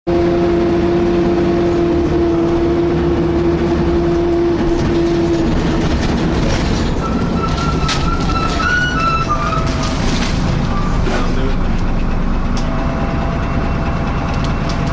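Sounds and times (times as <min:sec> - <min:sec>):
bus engine and road rumble: 0:00.1 - 0:14.9
bus whine: 0:00.1 - 0:14.9.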